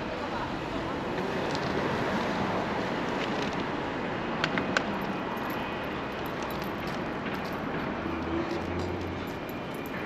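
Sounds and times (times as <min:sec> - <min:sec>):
traffic going by: 0:00.0 - 0:10.0.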